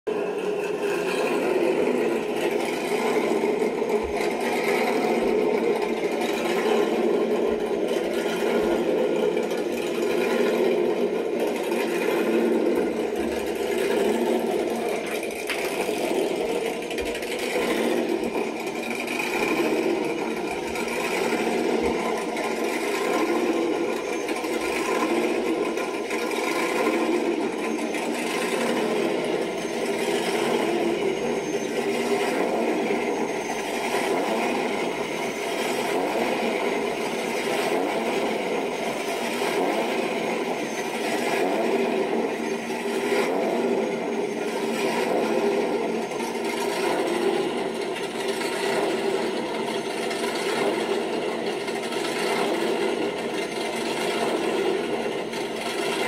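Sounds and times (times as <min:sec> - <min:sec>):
rapid mechanical chatter: 0:00.1 - 0:56.0.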